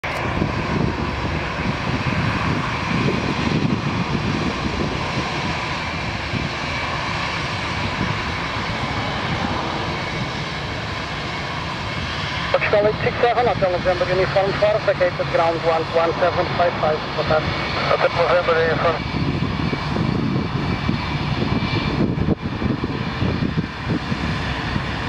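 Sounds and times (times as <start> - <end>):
jet engine roar: 0.0 - 25.0.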